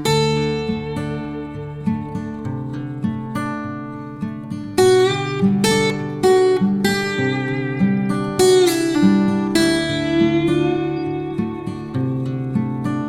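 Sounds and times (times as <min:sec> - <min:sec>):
acoustic guitar melody: 0:00.0 - 0:13.0.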